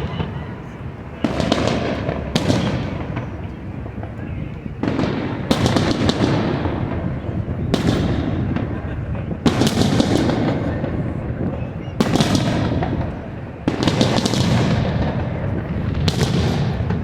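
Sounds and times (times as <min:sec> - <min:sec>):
echoing rumble and crackle: 0:00.0 - 0:17.0
loud firework bursts: 0:00.0 - 0:17.0.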